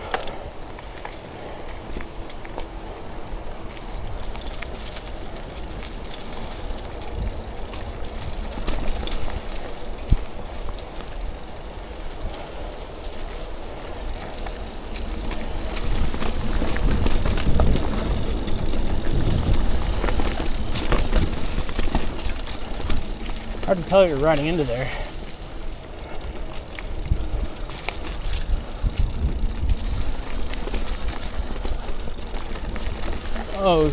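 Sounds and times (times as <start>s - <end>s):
bike rattling over bumps: 0.0s - 33.9s
bike tyres rolling on dirt: 0.0s - 33.9s.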